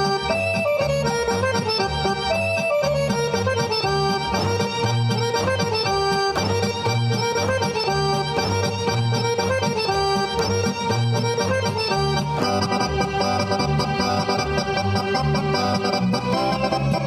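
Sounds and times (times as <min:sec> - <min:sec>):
accordion: 0:00.0 - 0:17.0
steady bass beat: 0:00.0 - 0:17.0.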